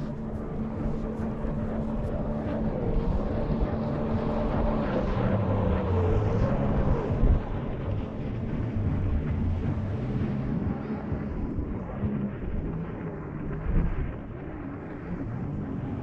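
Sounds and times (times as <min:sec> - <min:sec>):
motor droning: 0:00.0 - 0:16.0.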